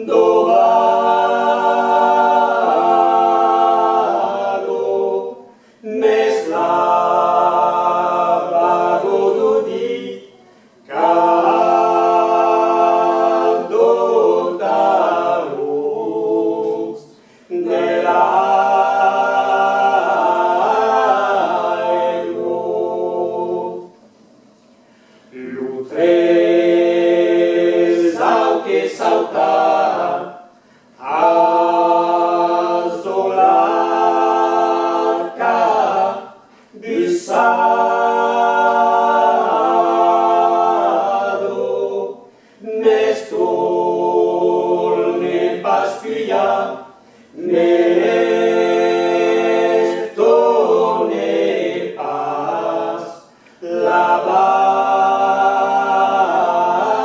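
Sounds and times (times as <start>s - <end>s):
vocal quartet singing in harmony: 0.0s - 57.0s.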